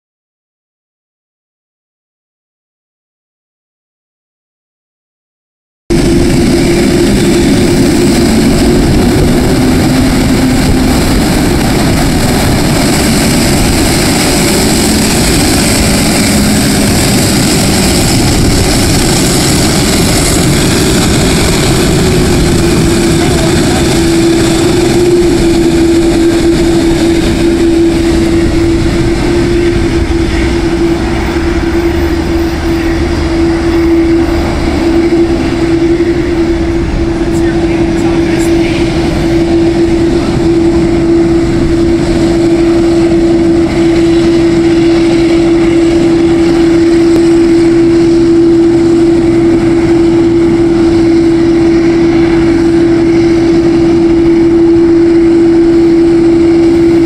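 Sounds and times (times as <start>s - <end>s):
jet engines roaring: 5.9s - 57.0s.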